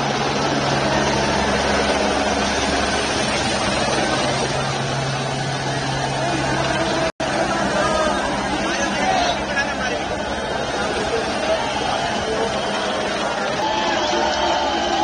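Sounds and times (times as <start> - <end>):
helicopter drone overhead: 0.0 - 15.0
outdoor noise: 0.0 - 15.0.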